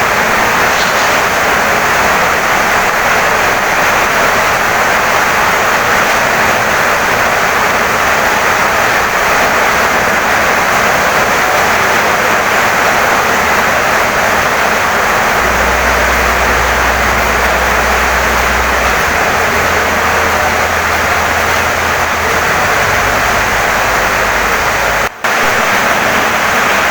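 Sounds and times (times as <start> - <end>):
heavy rain on a wooden house: 0.0 - 26.9.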